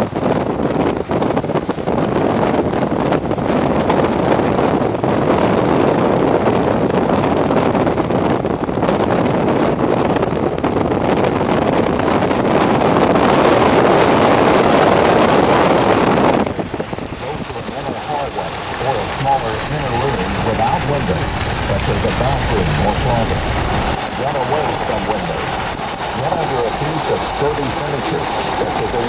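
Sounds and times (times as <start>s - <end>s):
strong wind on microphone: 0.0s - 29.0s.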